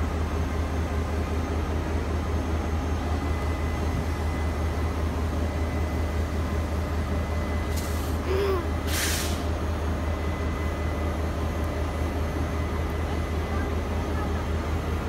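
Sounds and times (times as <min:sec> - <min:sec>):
locomotive low rumble: 0:00.0 - 0:15.0.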